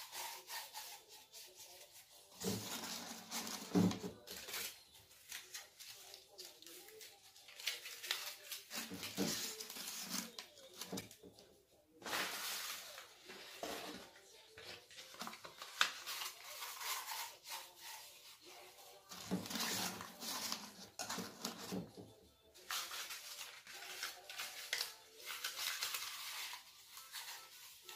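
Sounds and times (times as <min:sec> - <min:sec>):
paper rustling and crinkling: 0:00.0 - 0:27.9.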